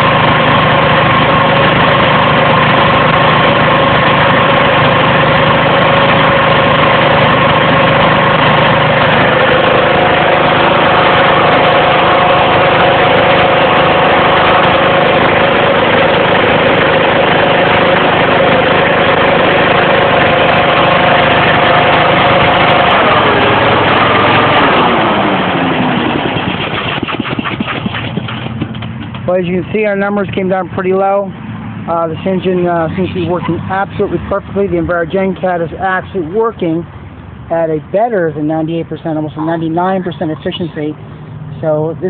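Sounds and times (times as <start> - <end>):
fan blowing: 0.0 - 42.0
petrol engine running: 0.0 - 42.0.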